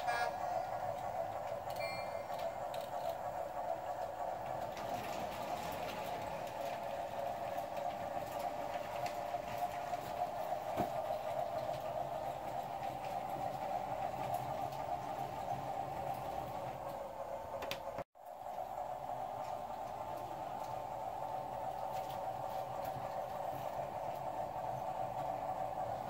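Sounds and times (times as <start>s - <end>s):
model train rolling on track: 0.0s - 26.0s.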